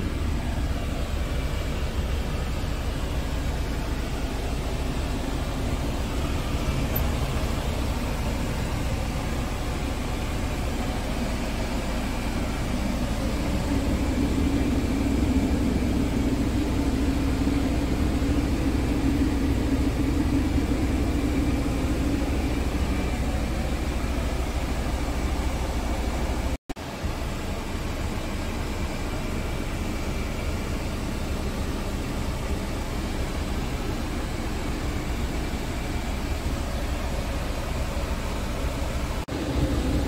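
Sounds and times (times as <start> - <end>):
diesel engine idling: 0.0 - 40.0
steady hum: 0.0 - 40.0.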